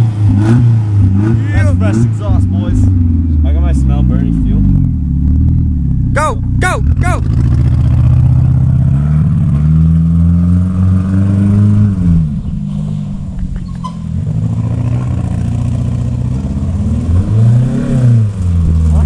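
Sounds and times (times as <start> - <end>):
loud car engine revving: 0.0 - 19.0.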